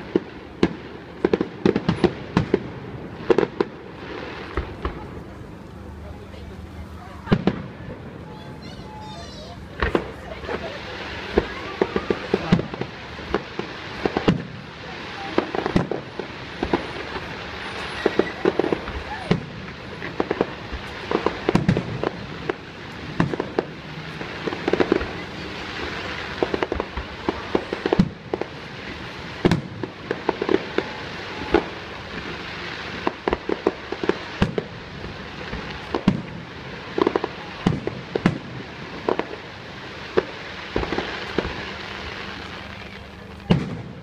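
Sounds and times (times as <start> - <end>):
firework bangs: 0.0 - 44.0
firework crackling: 0.0 - 44.0.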